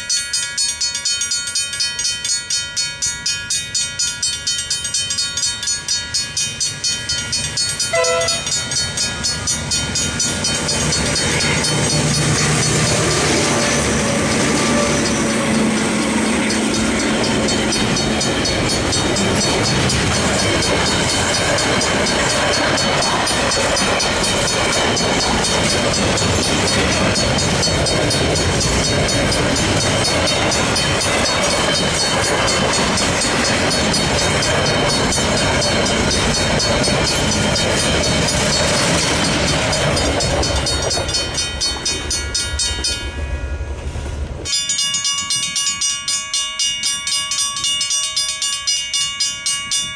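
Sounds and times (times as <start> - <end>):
crossing bells ringing: 0.0 - 49.9
diesel locomotive engine: 0.0 - 49.9
train wheels clattering on rails: 0.0 - 49.9.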